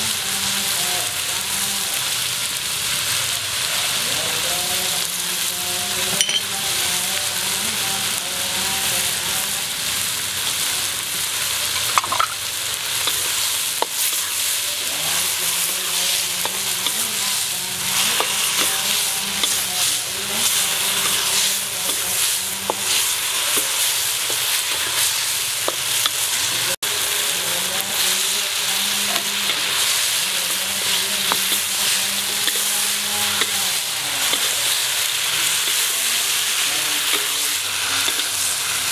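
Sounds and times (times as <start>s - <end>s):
food sizzling in a wok: 0.0s - 38.9s
spatula scraping a wok: 7.7s - 38.9s.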